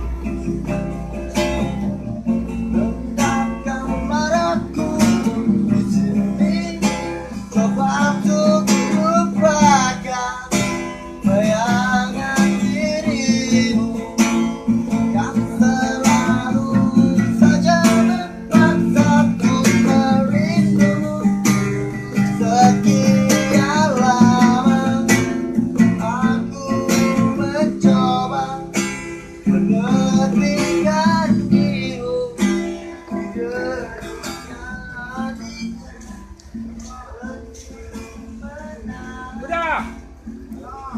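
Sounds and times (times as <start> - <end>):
acoustic guitar strumming: 0.0 - 40.9
person singing: 3.2 - 40.9.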